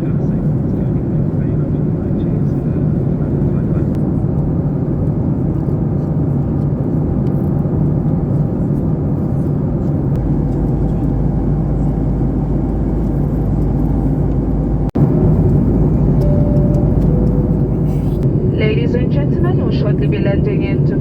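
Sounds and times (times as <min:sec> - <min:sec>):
airplane cabin rumble: 0:00.0 - 0:21.0.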